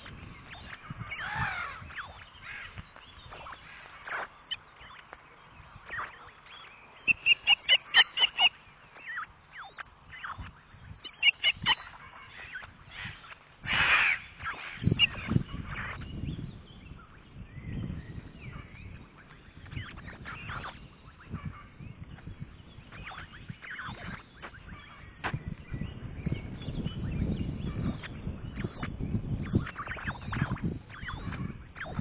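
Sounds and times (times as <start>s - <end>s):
osprey whistled calls: 0.0s - 32.0s.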